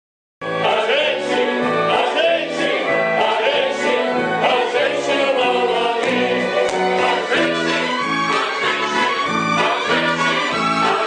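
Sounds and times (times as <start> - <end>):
classical singers with vibrato: 0.5 - 11.0.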